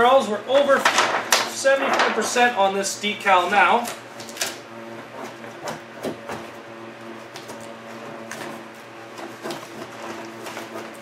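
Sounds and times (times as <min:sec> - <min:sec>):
squeegee scraping vinyl: 0:00.6 - 0:06.6, 0:07.2 - 0:11.0.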